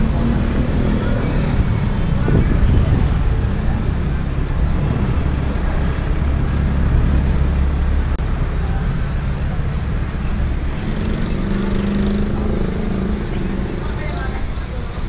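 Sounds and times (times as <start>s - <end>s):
urban din: 0.0s - 15.0s
vehicle engines running: 0.0s - 15.0s.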